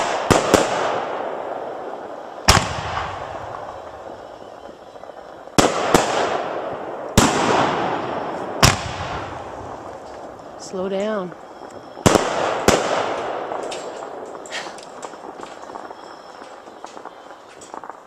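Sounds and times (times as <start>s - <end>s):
fireworks shells bursting: 0.0s - 18.0s.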